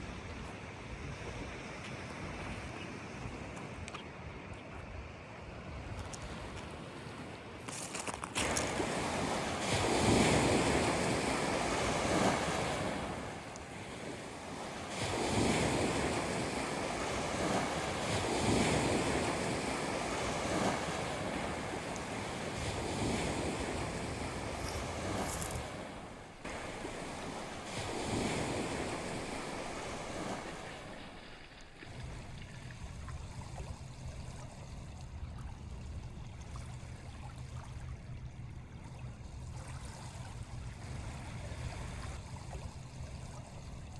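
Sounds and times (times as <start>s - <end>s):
waves breaking on shore: 0.0s - 43.9s
wind buffeting microphone: 8.6s - 43.9s.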